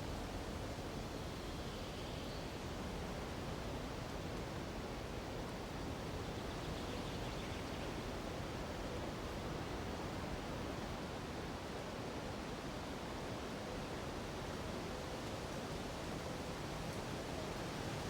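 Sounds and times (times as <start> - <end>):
wind through treetops: 0.0 - 18.0.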